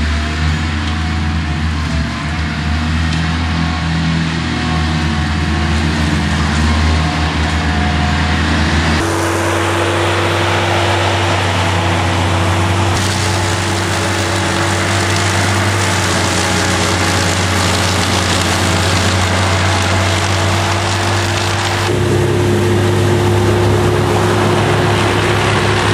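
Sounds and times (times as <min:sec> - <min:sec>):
loader engine humming: 0:00.0 - 0:25.9
mower deck whine: 0:00.0 - 0:25.9.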